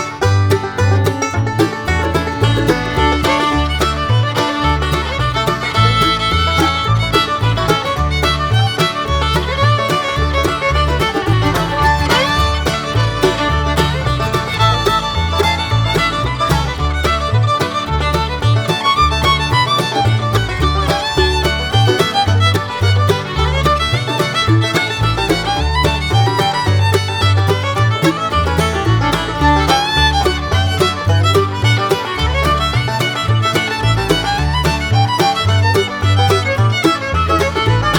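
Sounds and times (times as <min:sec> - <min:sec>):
bluegrass music with fiddle: 0:00.0 - 0:37.9.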